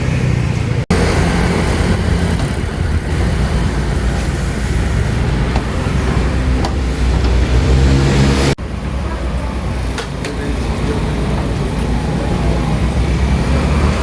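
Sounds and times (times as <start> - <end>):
motor vehicle rumbling: 0.0 - 14.0.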